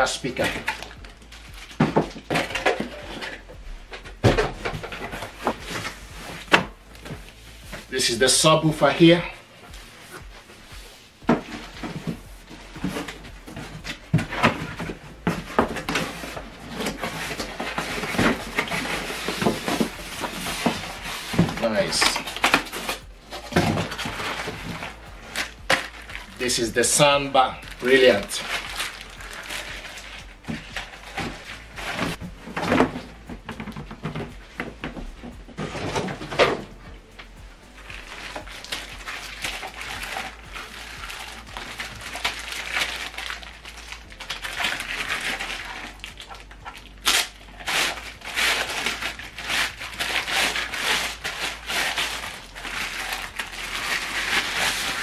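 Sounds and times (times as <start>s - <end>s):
boxes knocking and scraping: 0.0s - 9.2s, 11.2s - 47.0s
packaging rustling: 0.0s - 55.0s.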